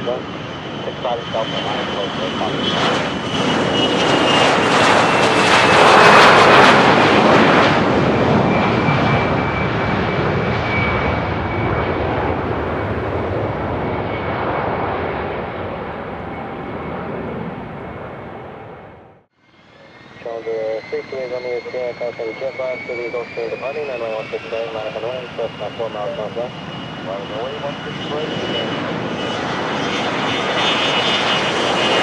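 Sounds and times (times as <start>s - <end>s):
jet passing by: 0.0s - 32.0s.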